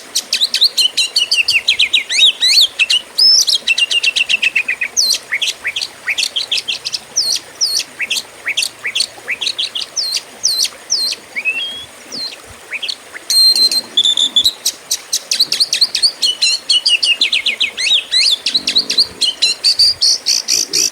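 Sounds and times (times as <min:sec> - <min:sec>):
songbird whistling song: 0:00.2 - 0:20.9.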